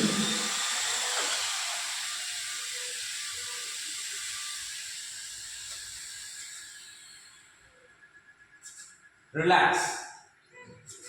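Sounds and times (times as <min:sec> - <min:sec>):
robot servo motors whirring: 0:00.0 - 0:09.1.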